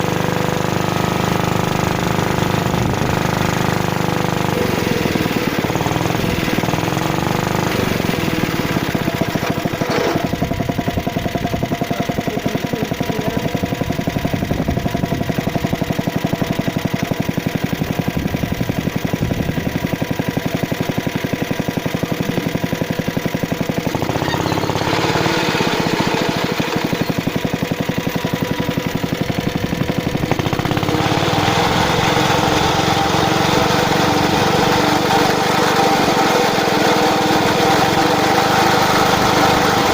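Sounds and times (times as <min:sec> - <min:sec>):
two-stroke lawn mower engine: 0:00.0 - 0:39.9.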